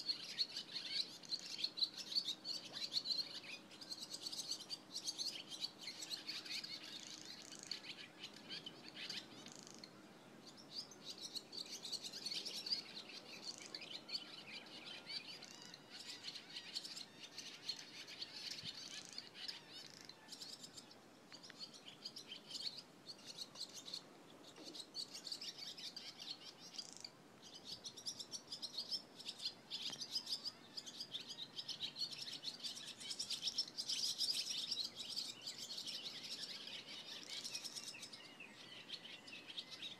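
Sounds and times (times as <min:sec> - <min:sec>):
swallows twittering: 0:00.0 - 0:39.9.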